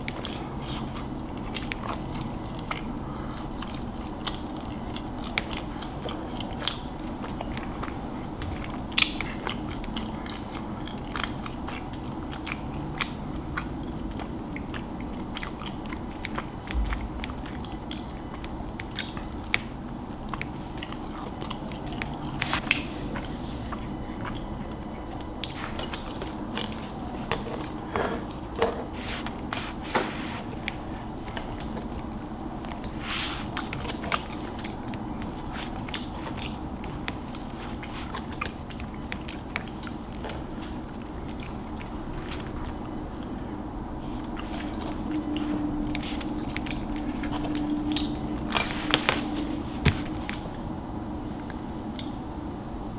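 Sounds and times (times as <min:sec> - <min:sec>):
person chewing: 0:00.0 - 0:50.6
low steady hum: 0:00.0 - 0:52.9.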